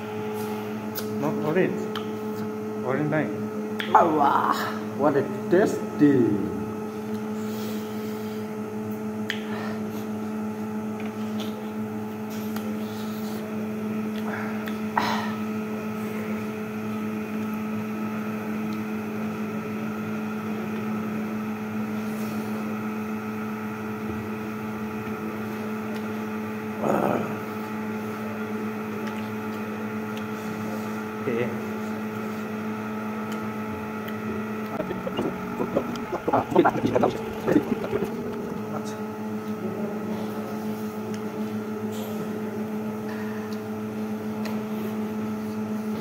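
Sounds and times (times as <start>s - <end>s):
steady mechanical hum: 0.0s - 46.0s.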